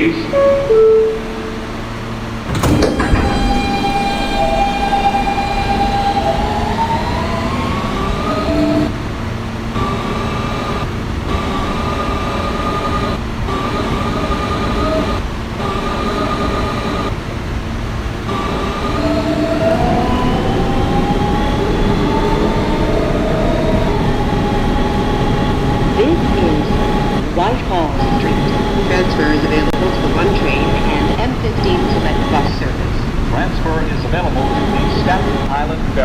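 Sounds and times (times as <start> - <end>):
traction motor whine: 0.0 - 36.0
wheel and track rumble: 0.0 - 36.0.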